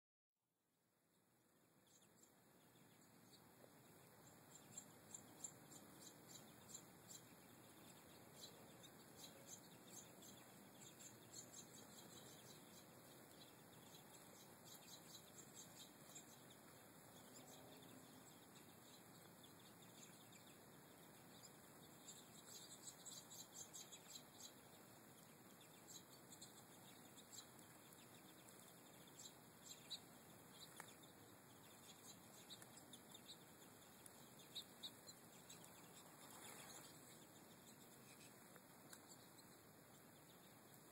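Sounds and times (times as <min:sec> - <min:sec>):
steady background hiss: 0:00.9 - 0:40.9
finches twittering chirps: 0:01.7 - 0:40.9.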